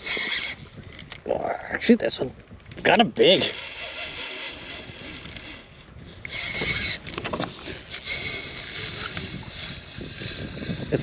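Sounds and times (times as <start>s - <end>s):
fishing reel drag buzzing: 0.0s - 1.2s, 2.7s - 11.0s.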